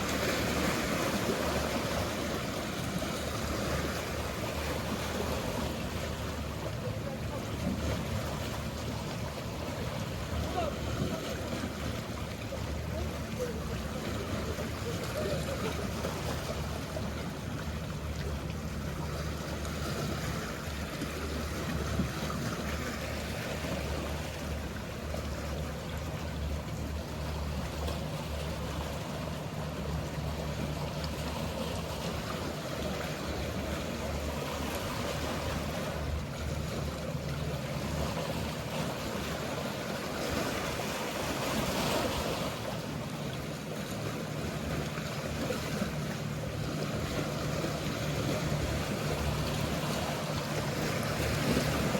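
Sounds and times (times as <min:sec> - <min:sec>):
boat engine hum: 0:00.0 - 0:51.9
sea waves washing: 0:00.0 - 0:51.9.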